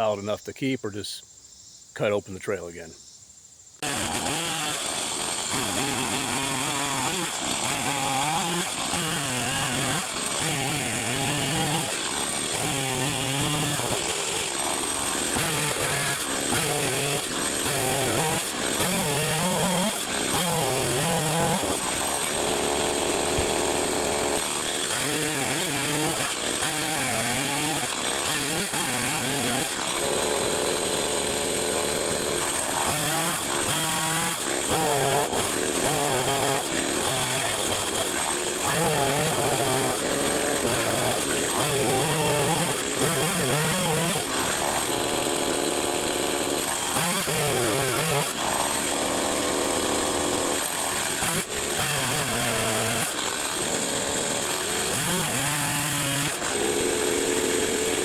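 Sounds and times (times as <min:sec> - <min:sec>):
chainsaw engine revving: 0:03.8 - 0:58.0.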